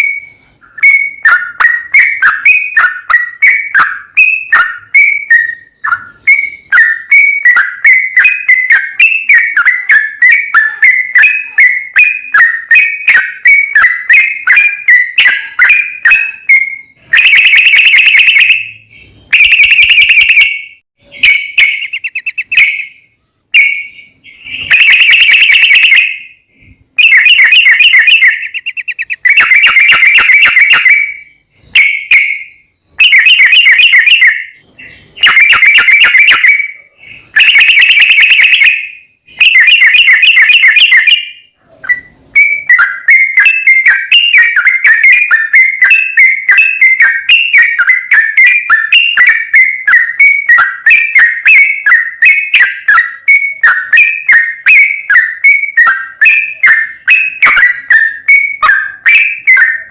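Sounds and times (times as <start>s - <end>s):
recorded bulbul song distorted: 0.0s - 59.9s.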